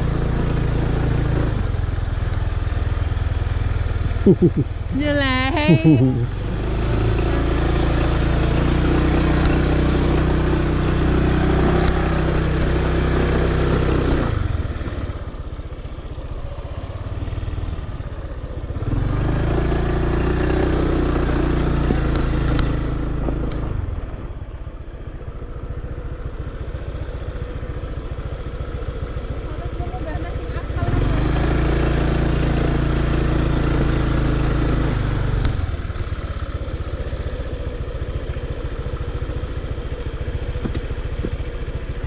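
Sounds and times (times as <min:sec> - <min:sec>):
scooter engine running: 0:00.0 - 0:42.0.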